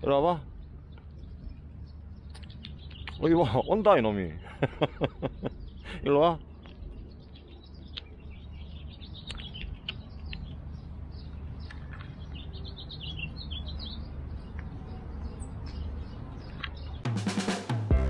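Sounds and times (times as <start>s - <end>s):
steady low rumble: 0.0s - 17.1s
small birds chirping: 0.0s - 17.6s.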